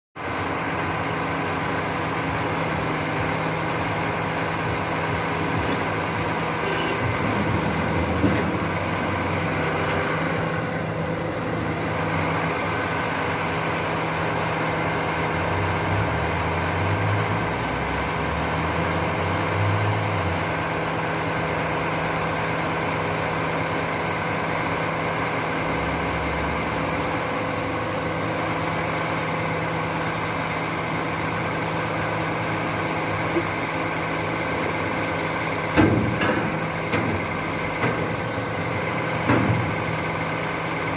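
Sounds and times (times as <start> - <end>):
garbage truck engine idling: 0.2 - 40.9.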